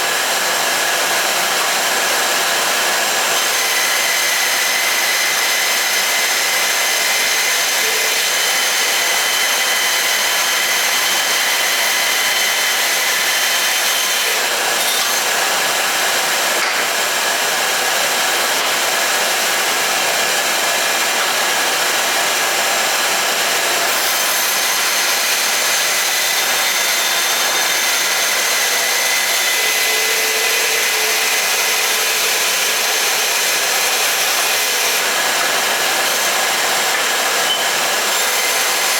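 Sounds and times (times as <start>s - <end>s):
shop vacuum running: 0.0s - 38.9s.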